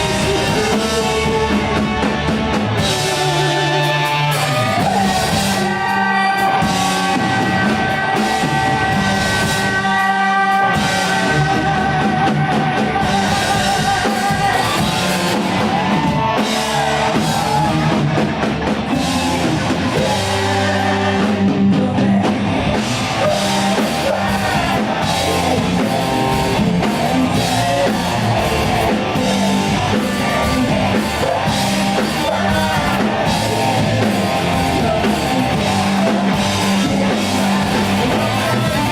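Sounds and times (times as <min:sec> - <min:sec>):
drum kit: 0:00.0 - 0:38.9
electric guitar: 0:00.0 - 0:38.9
person singing: 0:00.0 - 0:38.9.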